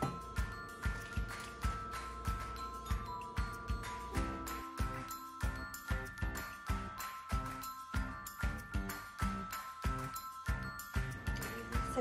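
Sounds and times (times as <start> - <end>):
music with beat and bell-like melody: 0.0 - 12.0.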